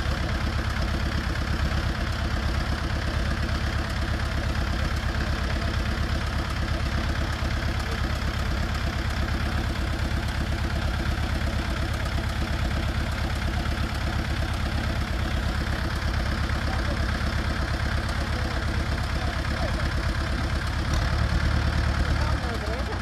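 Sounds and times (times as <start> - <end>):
tractor engine chugging: 0.0 - 23.0.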